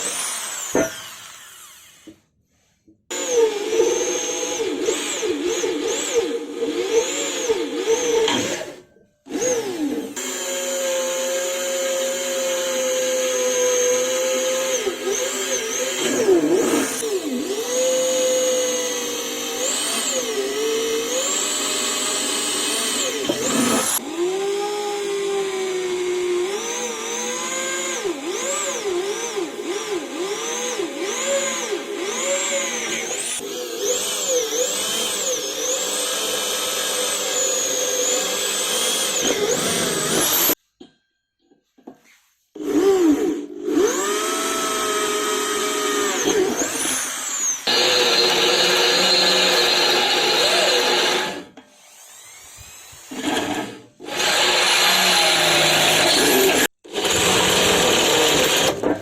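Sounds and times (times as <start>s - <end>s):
electric drill running: 0.0s - 2.1s, 3.1s - 8.2s, 9.3s - 40.6s, 42.6s - 58.8s.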